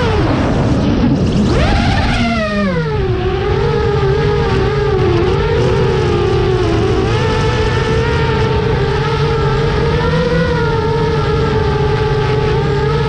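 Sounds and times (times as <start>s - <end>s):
drone motors humming: 0.0s - 13.0s.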